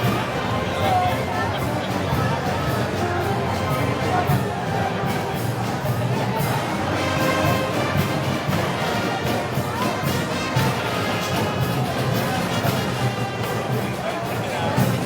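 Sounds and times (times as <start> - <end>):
brass band playing: 0.0 - 15.0
drums and cymbals: 0.0 - 15.0.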